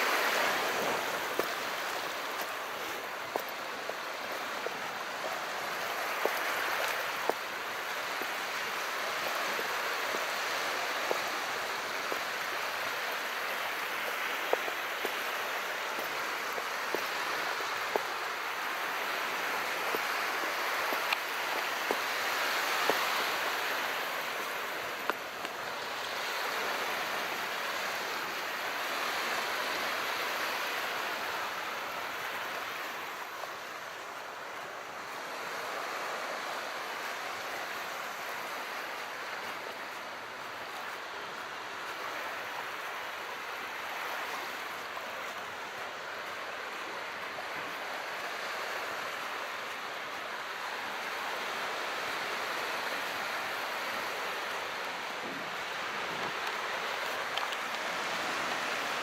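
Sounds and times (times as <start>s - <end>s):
small waves washing: 0.0s - 59.0s.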